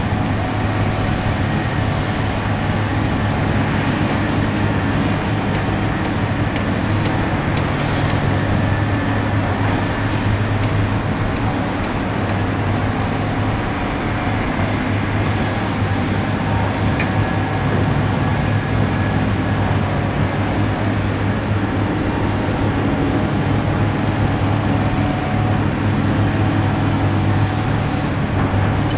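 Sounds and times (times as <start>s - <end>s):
diesel engine low drone: 0.0s - 28.9s.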